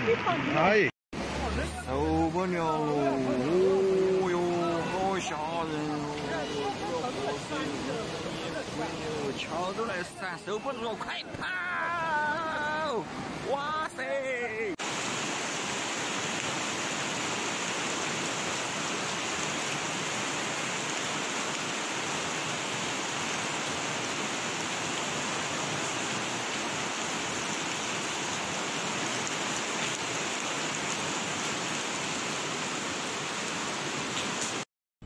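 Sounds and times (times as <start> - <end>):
floodwater rushing: 0.0 - 34.6
heavy rain: 0.0 - 34.6.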